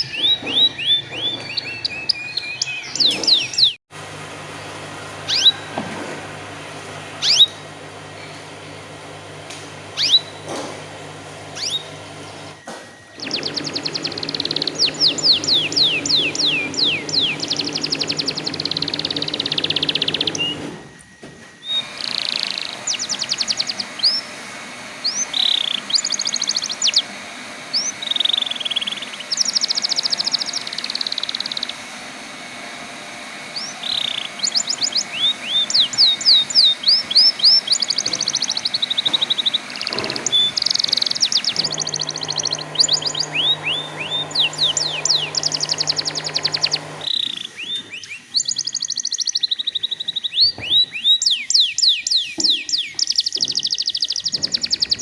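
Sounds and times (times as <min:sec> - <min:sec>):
canary singing trills: 0:00.0 - 0:03.8, 0:05.2 - 0:05.8, 0:07.2 - 0:07.6, 0:09.9 - 0:10.5, 0:11.4 - 0:20.7, 0:21.6 - 0:24.2, 0:25.0 - 0:31.9, 0:33.5 - 0:55.0.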